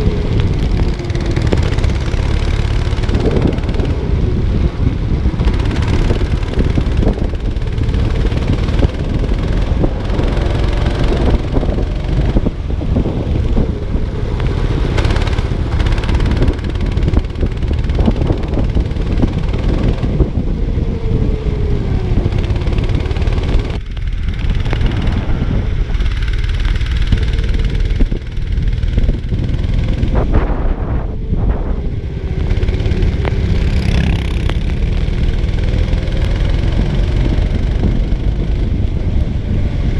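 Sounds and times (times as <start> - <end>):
go-kart engine revving: 0.0 - 39.9
wind and road rumble: 0.0 - 39.9.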